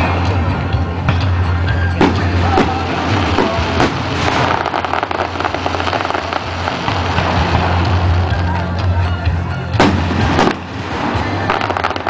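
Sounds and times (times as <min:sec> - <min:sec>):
fireworks crackling: 0:01.9 - 0:12.0.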